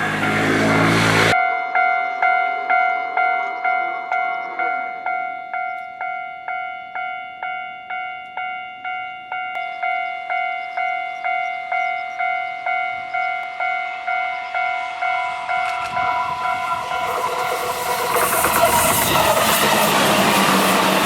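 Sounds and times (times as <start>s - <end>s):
approaching train: 0.0s - 21.0s
level crossing bell ringing: 0.0s - 21.0s.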